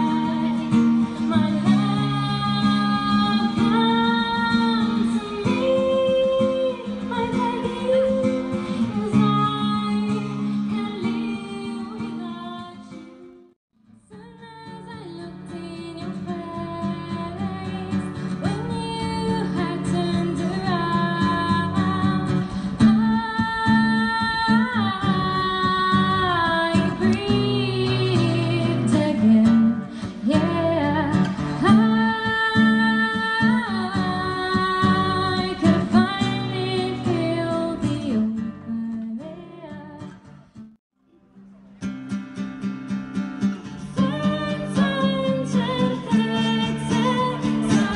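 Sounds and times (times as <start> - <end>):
strummed acoustic guitar: 0.0 - 13.5, 14.7 - 40.7, 41.3 - 47.9
woman singing slow song: 0.0 - 13.5, 14.1 - 40.2, 43.9 - 47.9.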